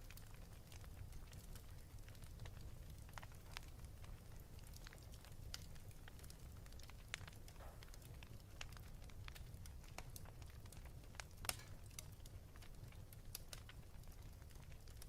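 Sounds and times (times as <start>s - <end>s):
wood fire crackling: 0.0s - 15.0s
fire pop: 0.7s - 15.0s.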